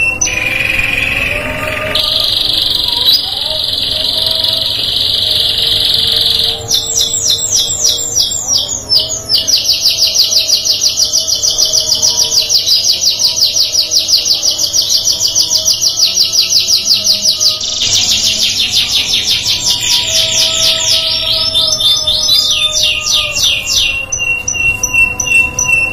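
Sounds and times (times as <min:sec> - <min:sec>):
canary singing: 0:00.0 - 0:25.9.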